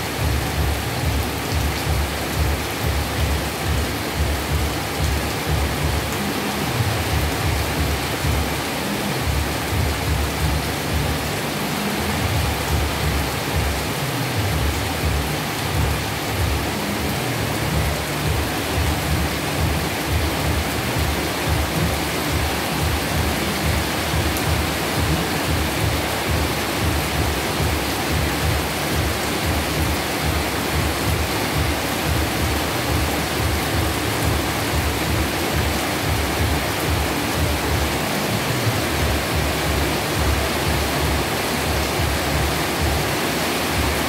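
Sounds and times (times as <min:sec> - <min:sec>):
heavy rain hissing: 0:00.0 - 0:44.0.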